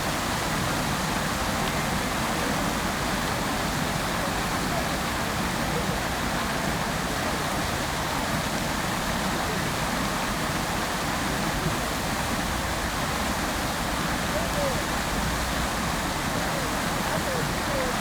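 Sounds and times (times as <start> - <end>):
fountain water splashing: 0.0 - 18.0.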